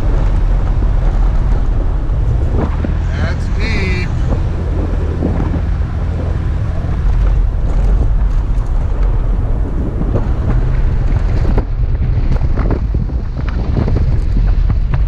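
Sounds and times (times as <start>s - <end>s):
engine running under load: 0.0s - 15.0s.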